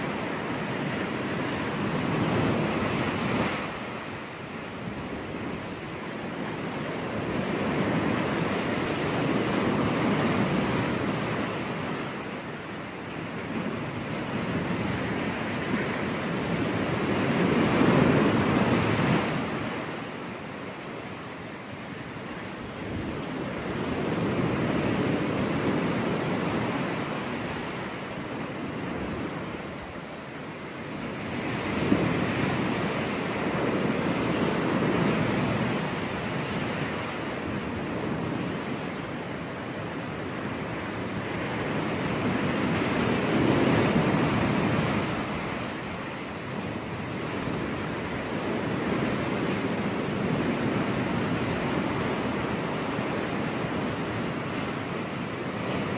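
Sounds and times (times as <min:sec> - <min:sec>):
ocean surf washing onto beach: 0:00.0 - 0:55.9
wind on microphone: 0:00.0 - 0:55.9.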